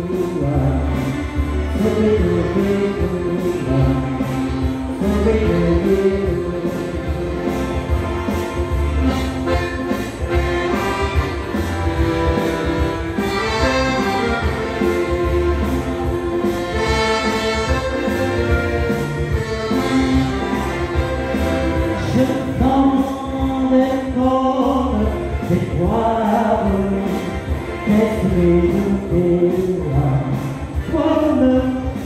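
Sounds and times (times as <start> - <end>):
dance music with steady beat: 0.0 - 32.0.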